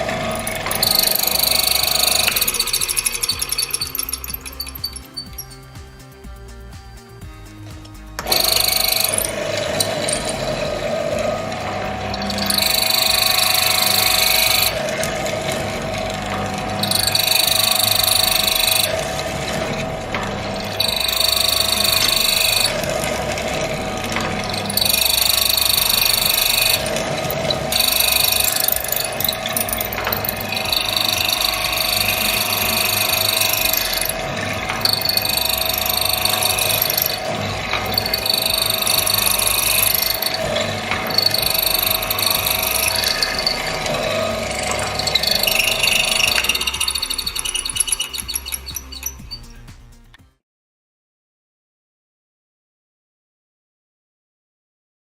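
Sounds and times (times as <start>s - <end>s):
mortiser motor running: 0.0s - 49.6s.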